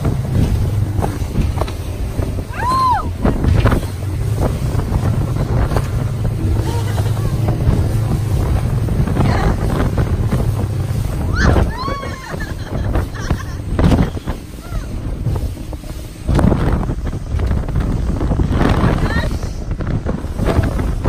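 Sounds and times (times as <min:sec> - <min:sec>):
powerboat engines running: 0:00.0 - 0:21.0
water slapping against hull: 0:00.0 - 0:21.0
wind buffeting microphone: 0:00.0 - 0:21.0.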